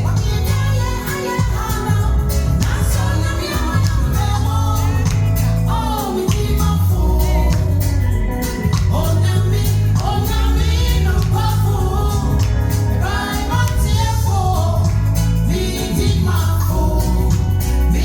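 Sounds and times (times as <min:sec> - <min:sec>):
band with bass and drums: 0:00.0 - 0:18.0
women singing gospel: 0:00.0 - 0:18.0.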